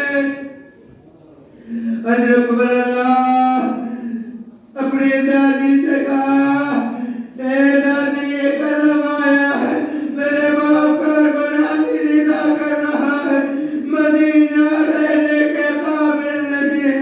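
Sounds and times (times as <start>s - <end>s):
man chanting a lament: 0.0s - 0.8s, 1.6s - 17.0s.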